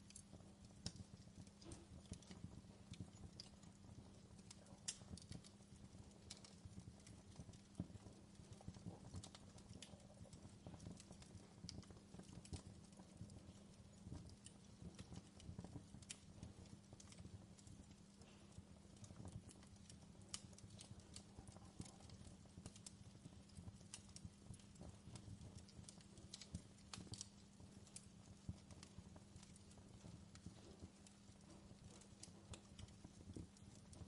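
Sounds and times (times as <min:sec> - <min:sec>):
soft steady hiss: 0:00.0 - 0:34.0
wood fire crackling: 0:00.0 - 0:34.0.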